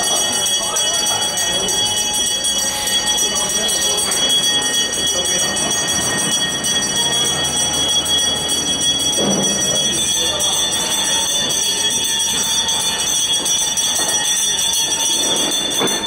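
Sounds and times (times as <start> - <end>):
bell ringing continuously: 0.0 - 16.0
crowd voices: 0.0 - 16.0.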